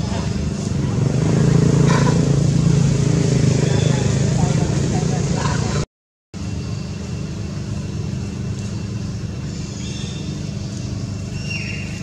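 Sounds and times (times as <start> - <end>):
steady low engine rumble: 0.0 - 12.0.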